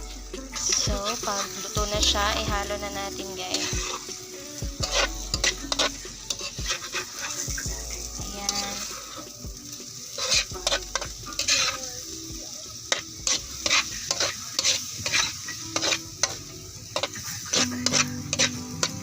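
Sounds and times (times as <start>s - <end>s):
food sizzling: 0.0s - 19.0s
utensil scraping a frying pan: 0.3s - 1.9s, 3.2s - 9.4s, 10.1s - 12.0s, 12.8s - 19.0s.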